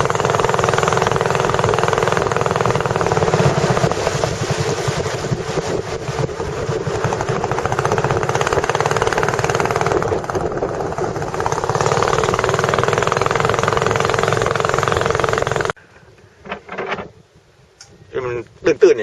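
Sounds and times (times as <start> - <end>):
boat engine pulsing: 0.0 - 15.8.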